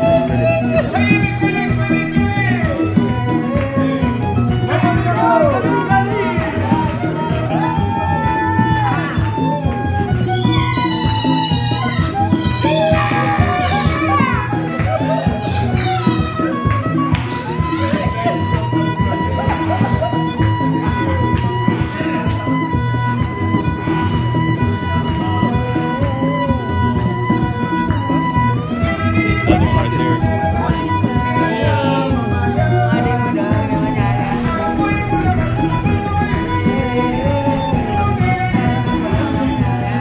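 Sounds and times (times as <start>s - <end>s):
fast shaker rhythm: 0.0s - 20.1s, 21.6s - 40.0s.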